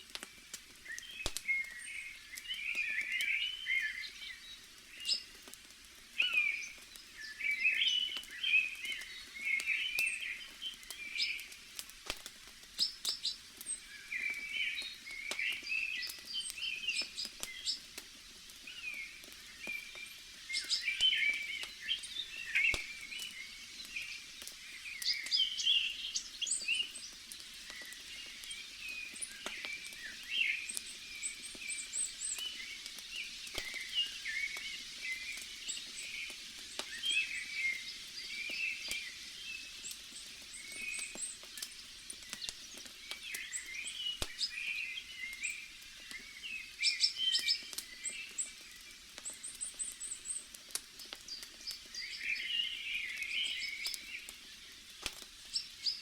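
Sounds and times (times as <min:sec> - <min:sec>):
campfire crackling pops: 0:00.0 - 0:56.0
forest ambience hiss: 0:00.0 - 0:56.0
small birds chirping: 0:00.0 - 0:56.0.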